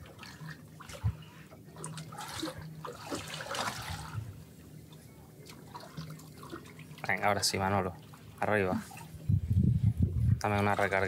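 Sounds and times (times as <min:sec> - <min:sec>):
water lapping against boat: 0:00.0 - 0:09.5, 0:10.2 - 0:11.0.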